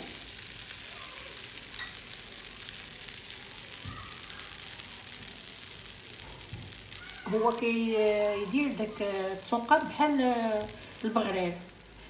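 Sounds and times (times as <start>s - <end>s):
batter sizzling in a frying pan: 0.0s - 12.0s.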